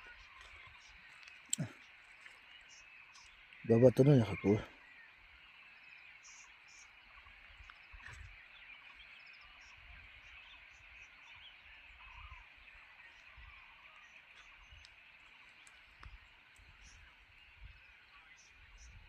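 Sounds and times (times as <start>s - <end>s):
chorus of chirping animals: 0.0s - 19.0s.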